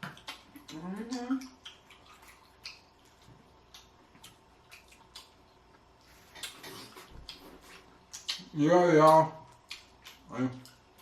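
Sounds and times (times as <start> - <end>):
chewing clicks and smacks: 0.0 - 11.0.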